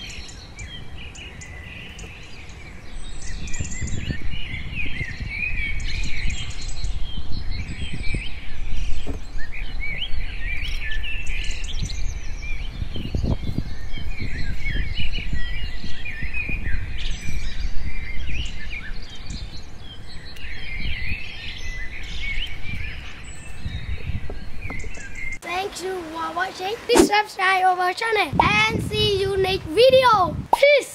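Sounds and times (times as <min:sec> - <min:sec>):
small birds chirping: 0:00.0 - 0:29.7.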